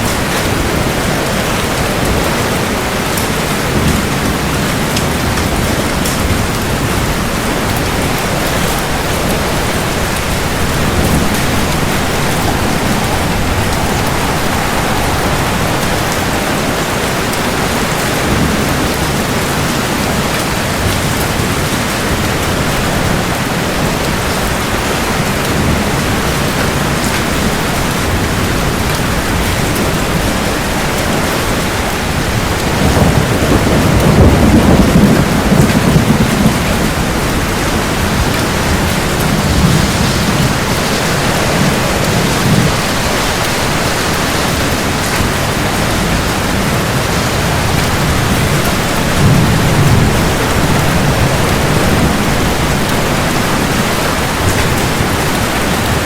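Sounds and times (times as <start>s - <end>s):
heavy rain: 0.0s - 56.0s
rolling thunder: 0.0s - 56.0s.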